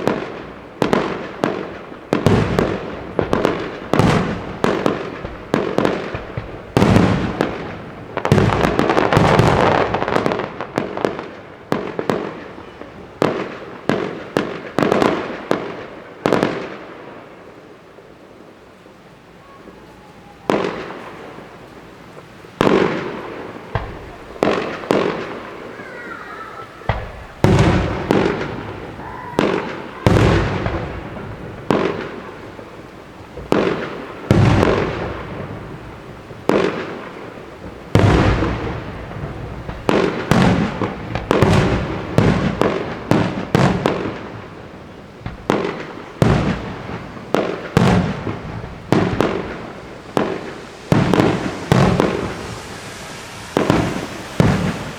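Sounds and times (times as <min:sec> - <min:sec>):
firework bursts with echoing rumble: 0:00.0 - 0:17.7, 0:26.8 - 0:54.9.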